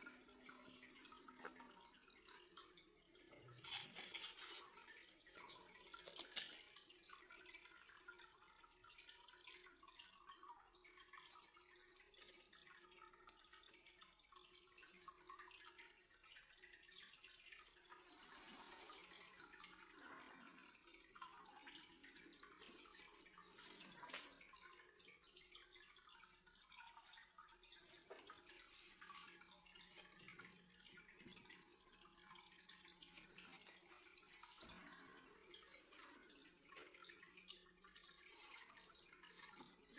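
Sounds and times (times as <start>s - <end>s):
dripping and trickling water: 0.0s - 39.9s.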